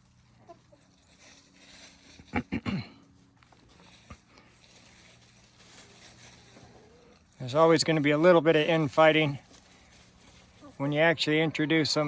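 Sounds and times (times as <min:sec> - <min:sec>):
chickens clucking: 0:00.0 - 0:02.6, 0:03.5 - 0:12.0.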